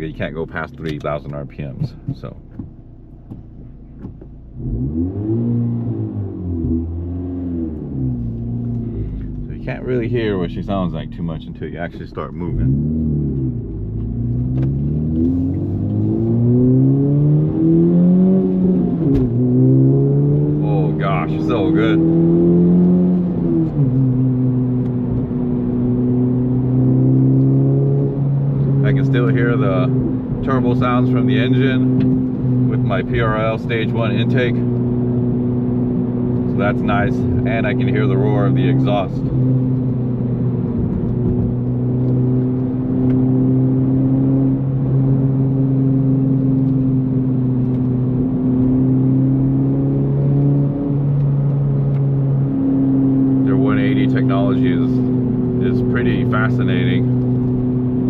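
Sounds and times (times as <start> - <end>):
car engine and exhaust drone: 0.0 - 58.0.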